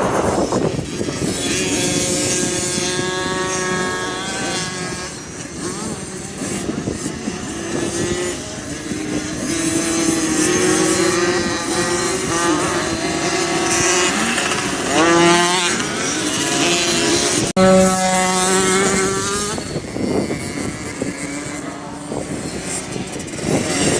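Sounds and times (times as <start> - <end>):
bike revving up: 0.0 - 23.9
dirt bike engines: 0.0 - 23.9.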